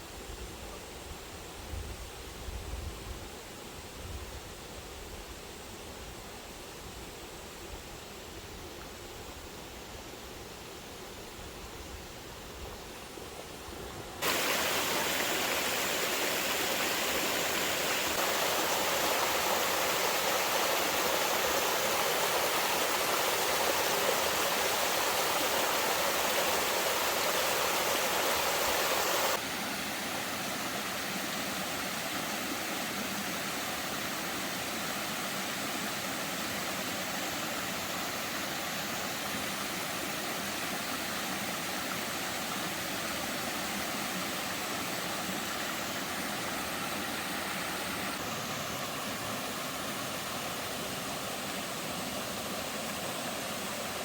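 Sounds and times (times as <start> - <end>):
rushing water: 8.4 - 54.0.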